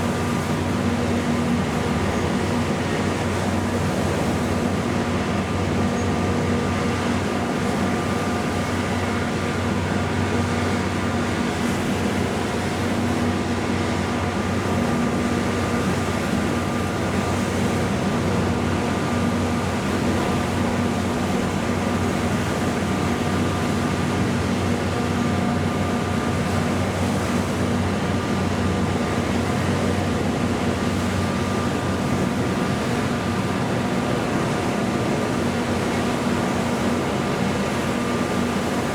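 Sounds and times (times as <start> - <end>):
boat engines droning: 0.0 - 38.9.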